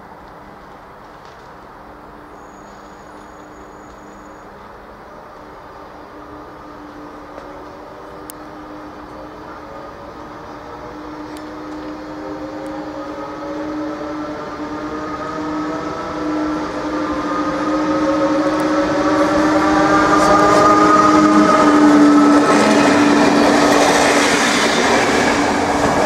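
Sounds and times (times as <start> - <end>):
electric train accelerating whine: 0.0 - 26.0.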